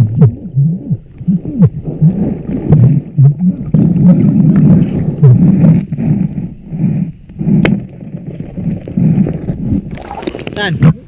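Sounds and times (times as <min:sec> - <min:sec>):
underwater gurgling and bubbling: 0:00.0 - 0:11.0.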